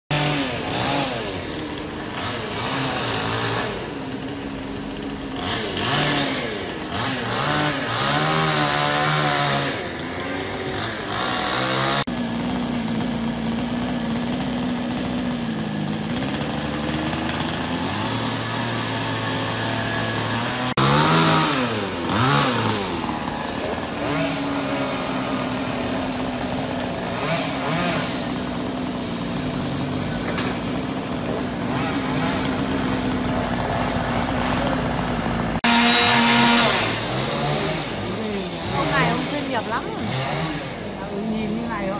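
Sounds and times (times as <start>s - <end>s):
chainsaw revving while cutting: 0.1s - 41.9s.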